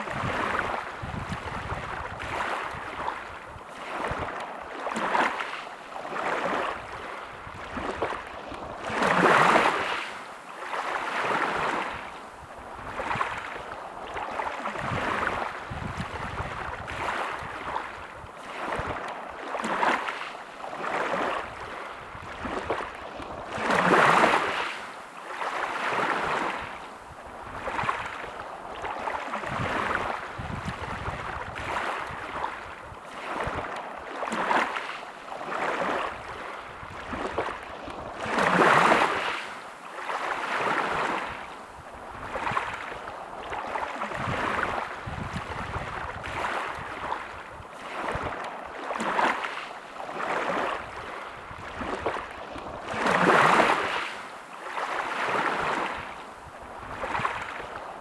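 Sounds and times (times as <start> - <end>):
big waves breaking: 0.0 - 58.0
small waves lapping: 0.0 - 58.0.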